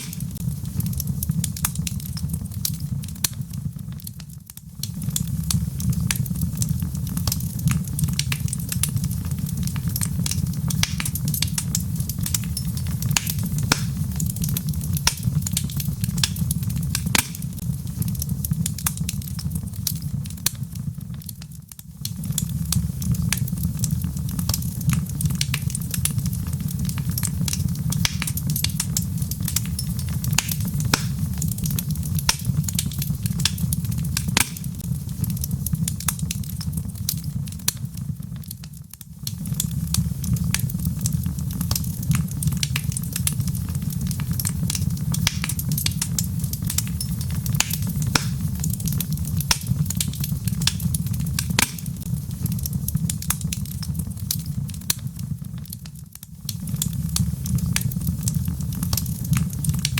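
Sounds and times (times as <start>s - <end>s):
log fire crackling: 0.0s - 59.9s.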